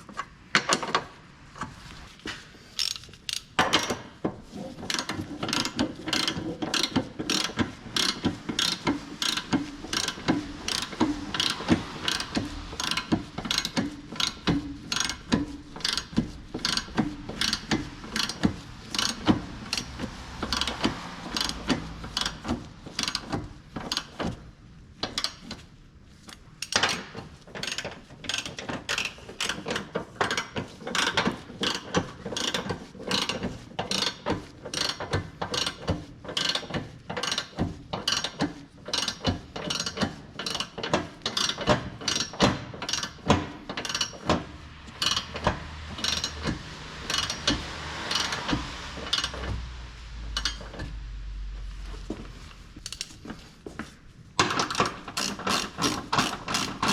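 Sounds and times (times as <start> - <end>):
ratchet handle clicking: 2.7 - 4.1, 4.9 - 24.4, 26.6 - 49.6, 50.3 - 50.9, 52.8 - 53.2, 54.4 - 56.9.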